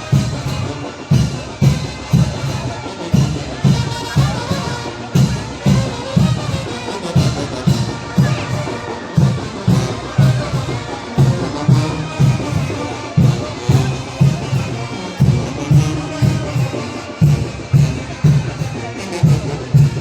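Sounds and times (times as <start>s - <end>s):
wind band brass tune: 0.0s - 20.0s
bass drum beating: 3.2s - 20.0s.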